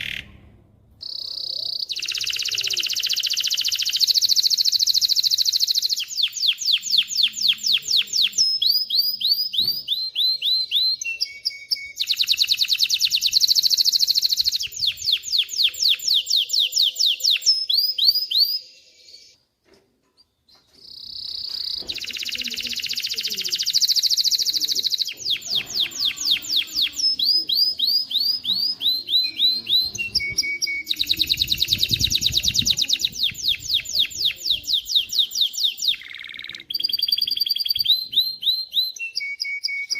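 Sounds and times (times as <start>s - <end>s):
canary singing: 0.0s - 19.4s, 20.2s - 39.9s.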